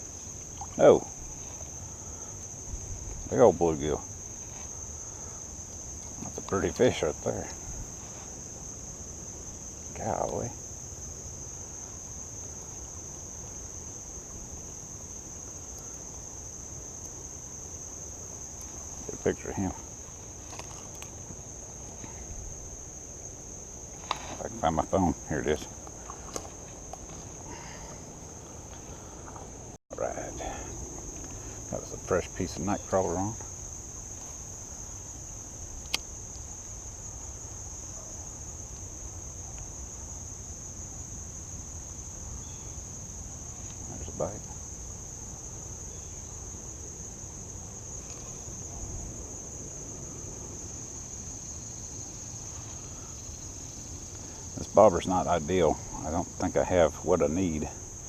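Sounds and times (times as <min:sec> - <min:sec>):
crickets buzzing: 0:00.0 - 0:58.0
insects chirping chorus: 0:00.0 - 0:58.0.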